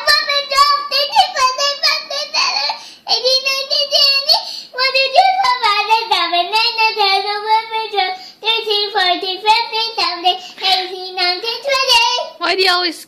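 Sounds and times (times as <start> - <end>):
toddler singing: 0.0 - 12.4.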